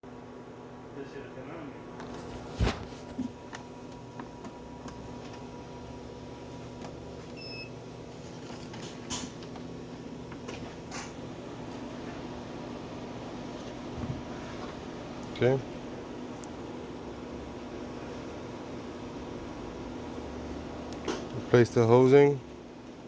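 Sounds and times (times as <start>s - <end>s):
low electrical hum: 0.1s - 23.0s.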